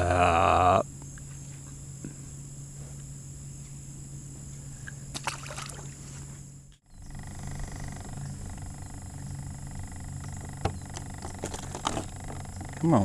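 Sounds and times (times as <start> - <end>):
high-pitched insect drone: 0.0 - 13.0
low hum: 0.0 - 13.0.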